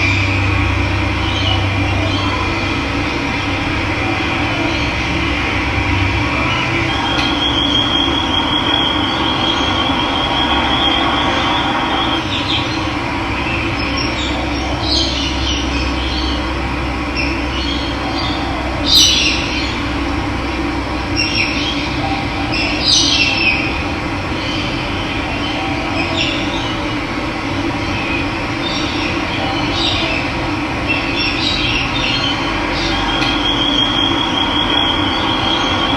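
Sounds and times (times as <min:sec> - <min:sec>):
birds trilling and chirping: 0:00.0 - 0:35.9.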